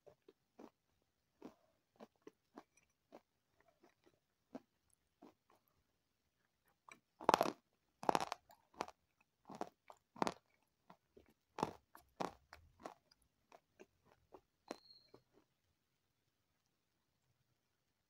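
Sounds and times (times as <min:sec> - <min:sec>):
crisp crunchy chewing: 0:00.0 - 0:05.8, 0:06.4 - 0:15.6.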